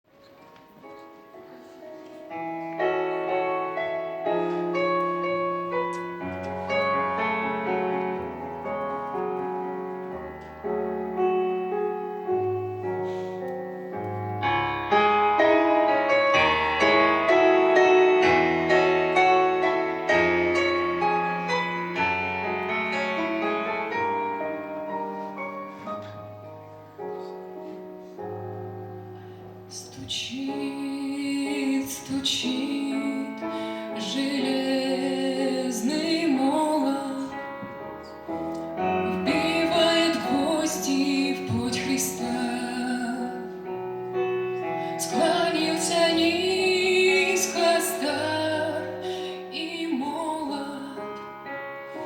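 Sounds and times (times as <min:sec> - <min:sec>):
slow piano hymn introduction: 0:00.1 - 0:52.0.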